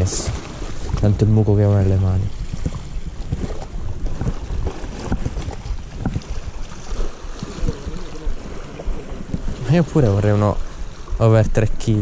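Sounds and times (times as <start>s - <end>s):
small waves washing against rocks: 0.0s - 11.1s
wind buffeting microphone: 0.0s - 12.0s.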